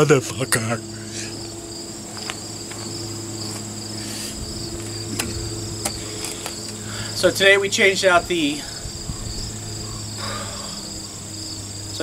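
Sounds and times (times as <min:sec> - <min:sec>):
insects chirring: 0:00.0 - 0:12.0
low steady hum: 0:00.0 - 0:12.0.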